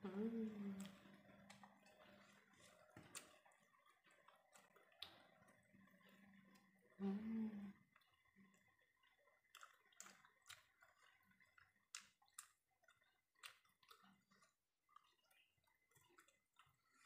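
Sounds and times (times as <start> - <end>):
person chewing and lip-smacking: 0.8 - 5.6, 7.9 - 17.0.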